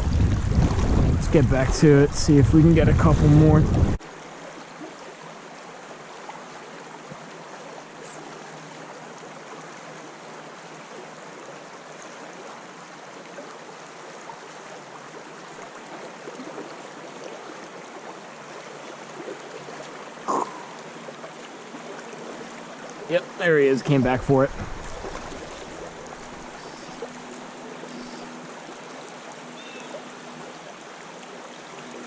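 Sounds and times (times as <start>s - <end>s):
stream flowing: 0.0s - 32.0s.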